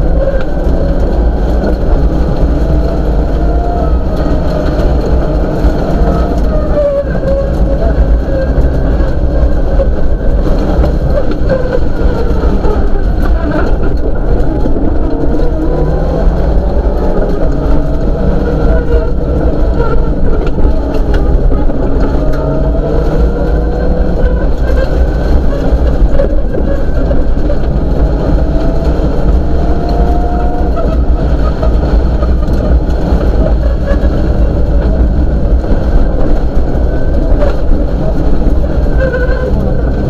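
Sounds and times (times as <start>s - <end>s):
rally car engine revving: 0.0s - 40.0s
rumble of dirt road: 0.0s - 40.0s.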